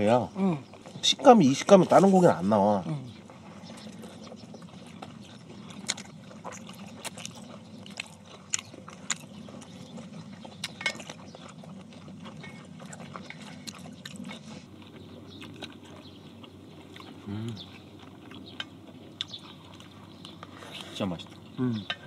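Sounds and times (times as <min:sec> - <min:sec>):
people chewing: 0:00.0 - 0:22.0.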